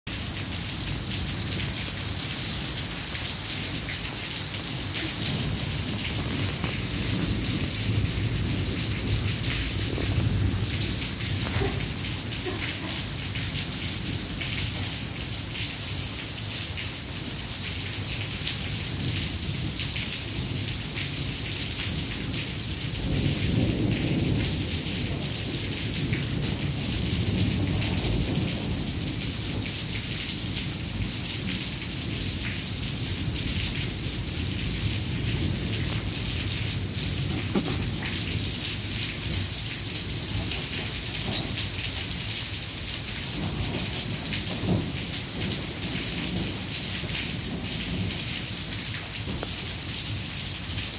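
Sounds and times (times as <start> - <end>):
low rumble of thunder: 0.1 - 17.4, 18.0 - 50.9
steady rain falling: 0.1 - 50.9.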